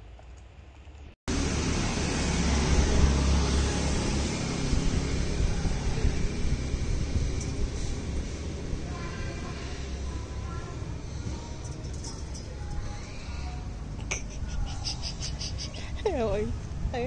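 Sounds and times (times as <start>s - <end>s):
outdoor rushing noise: 0.0s - 17.0s
deep fluttering rumble: 1.3s - 17.0s.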